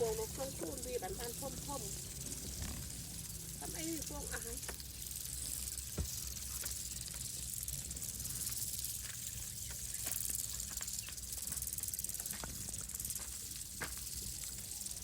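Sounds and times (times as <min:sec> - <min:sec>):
insects chirring: 0:00.0 - 0:15.0
small clicks and ticks: 0:00.0 - 0:15.0.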